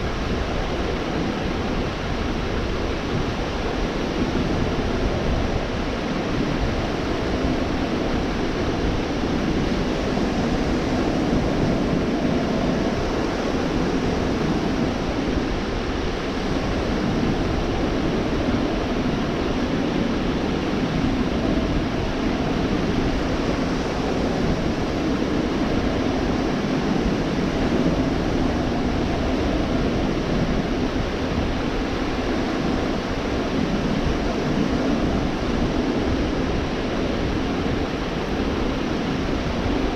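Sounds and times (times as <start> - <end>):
surf breaking on sandy beach: 0.0 - 39.9.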